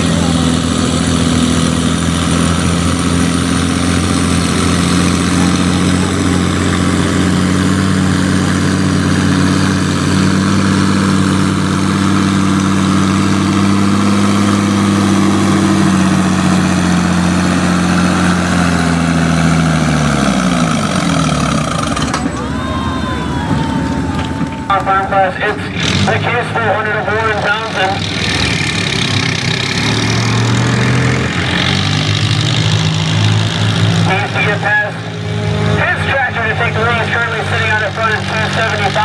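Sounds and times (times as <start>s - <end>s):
tractor engine running under load: 0.0s - 39.0s.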